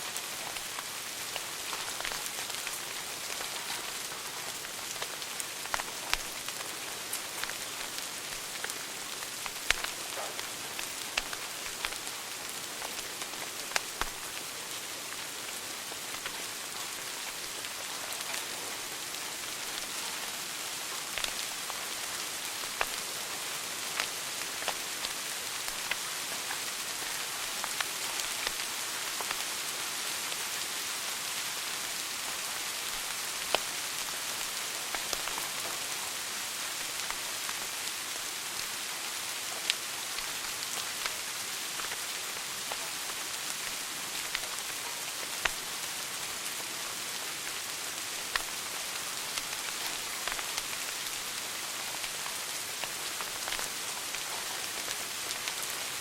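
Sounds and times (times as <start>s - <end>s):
wood fire crackling and popping: 0.1s - 46.6s, 47.3s - 56.0s.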